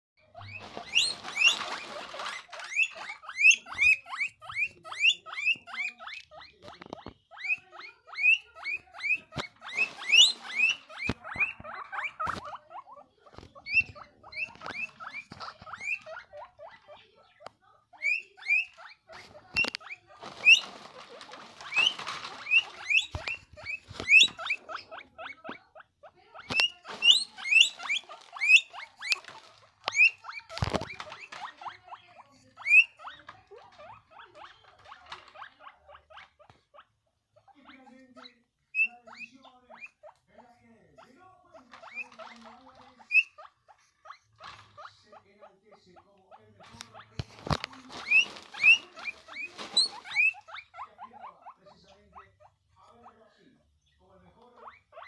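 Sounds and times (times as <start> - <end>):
guinea pig wheeking: 0.2 - 55.0.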